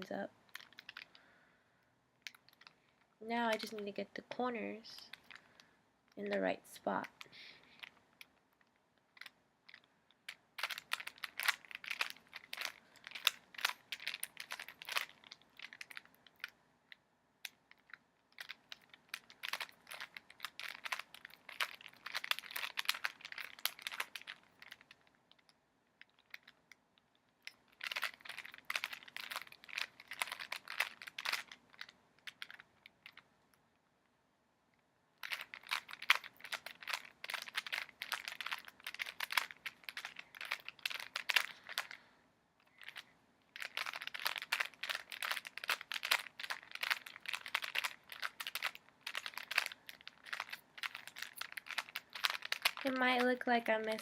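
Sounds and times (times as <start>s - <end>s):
rubik's cube clicking: 0.5s - 1.2s, 2.2s - 2.8s, 3.5s - 26.6s, 27.4s - 33.2s, 35.2s - 42.0s, 42.8s - 54.0s.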